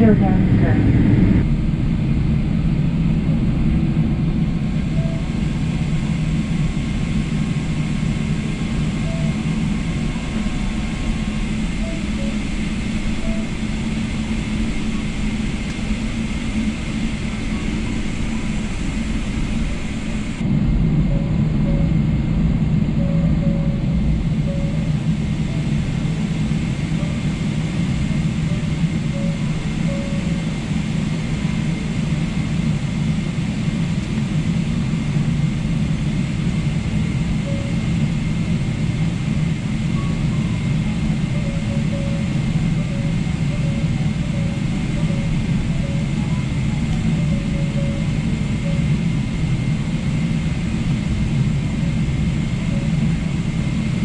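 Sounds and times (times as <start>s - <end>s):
aircraft cabin low rumble: 0.0s - 54.0s.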